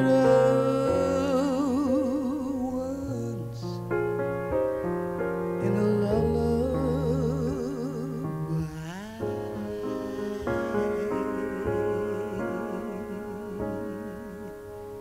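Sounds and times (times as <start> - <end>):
person singing with vibrato: 0.0 - 3.9, 5.5 - 15.0.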